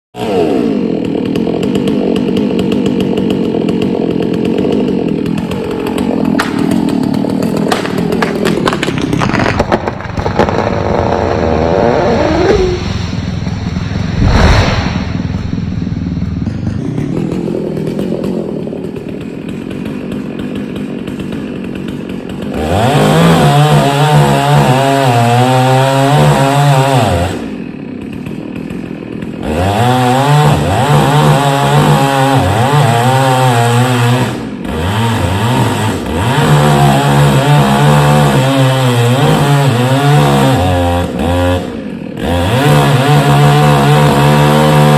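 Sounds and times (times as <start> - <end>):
chainsaw running: 0.2 - 14.2, 15.1 - 44.9.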